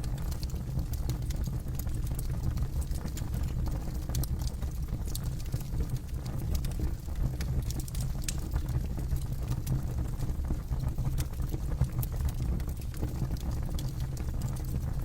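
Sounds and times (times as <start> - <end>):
burning wood crackling and popping: 0.0 - 15.0.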